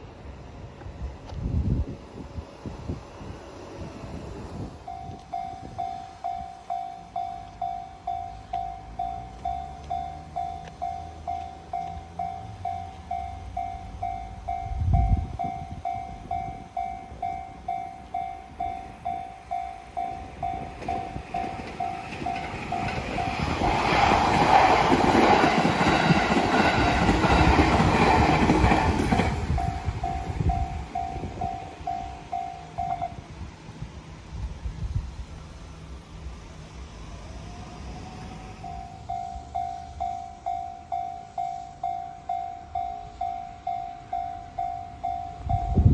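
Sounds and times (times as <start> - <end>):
train rumble and wheel noise: 0.0 - 45.9
railroad crossing bell ringing: 4.1 - 33.6, 37.8 - 45.9.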